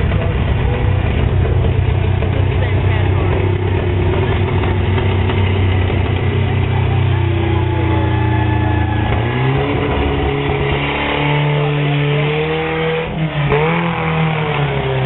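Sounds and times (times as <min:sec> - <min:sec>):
car engine driving past: 0:02.2 - 0:15.0.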